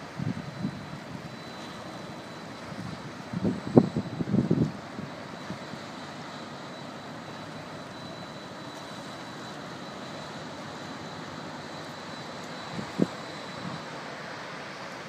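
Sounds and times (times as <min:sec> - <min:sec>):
ship engine droning: 0:00.0 - 0:15.0
ship wash on river: 0:00.0 - 0:15.0.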